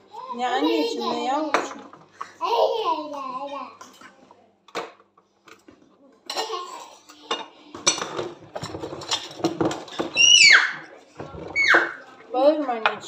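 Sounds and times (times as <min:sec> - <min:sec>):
dishes clinking and clattering: 0:00.2 - 0:13.0.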